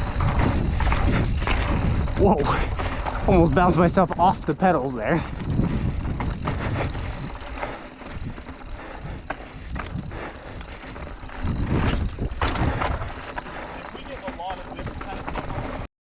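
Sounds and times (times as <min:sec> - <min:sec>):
bike knocks and rattles: 0:00.0 - 0:15.9
mountain bike rumbling over rocks: 0:00.0 - 0:15.9.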